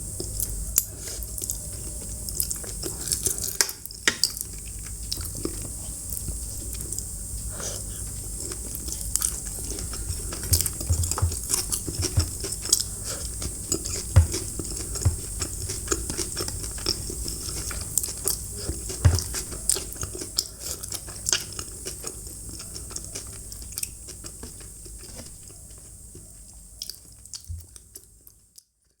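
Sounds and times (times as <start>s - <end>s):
person chewing food: 0.0s - 28.7s
mouth clicks and crunches: 0.2s - 28.7s.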